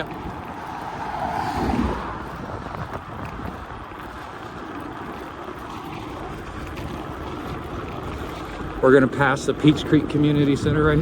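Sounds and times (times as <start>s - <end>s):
bicycle tyres rolling: 0.0s - 11.0s
wind buffeting microphone: 0.0s - 11.0s.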